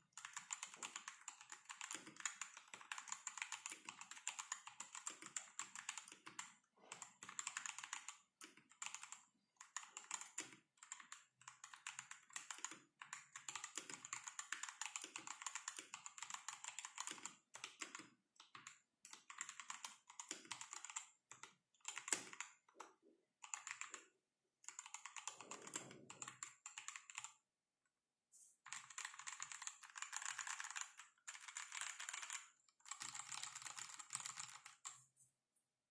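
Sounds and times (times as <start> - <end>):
typing on mechanical keyboard: 0.0 - 24.1, 24.7 - 27.4, 28.6 - 35.0.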